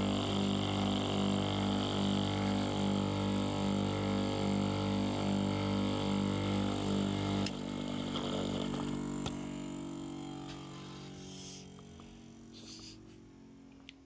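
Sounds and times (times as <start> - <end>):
bench grinder running: 0.0 - 13.8.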